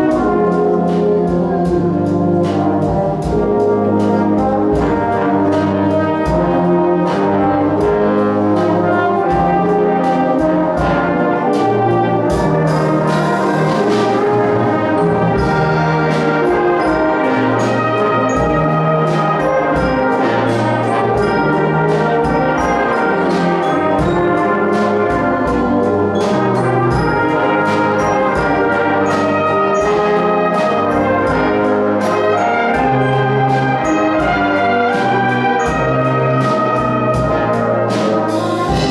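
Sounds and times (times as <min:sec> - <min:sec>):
brass band playing: 0:00.0 - 0:38.9
drum kit beats: 0:00.0 - 0:38.9.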